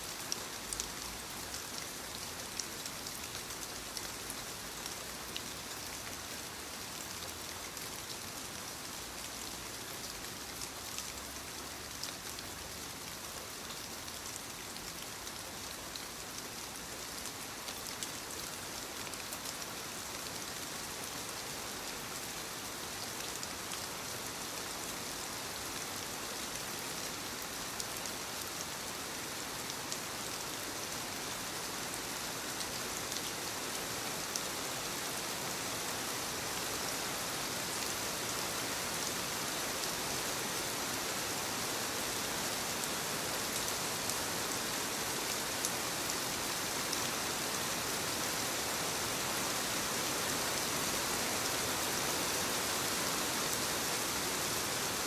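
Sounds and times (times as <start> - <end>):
soft rain on leaves: 0.0 - 55.0.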